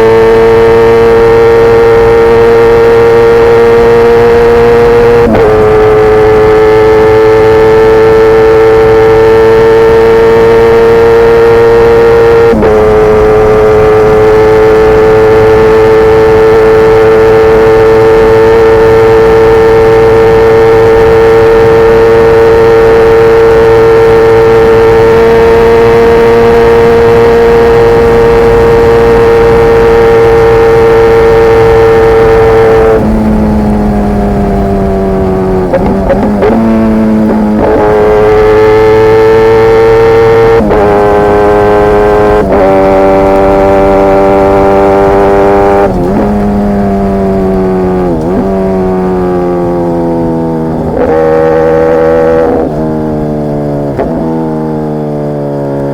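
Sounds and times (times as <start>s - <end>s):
motorcycle engine revving high: 0.0s - 55.9s.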